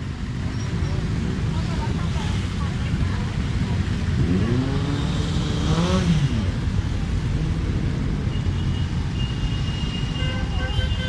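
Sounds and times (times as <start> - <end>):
motorcycles riding past: 0.0 - 9.1.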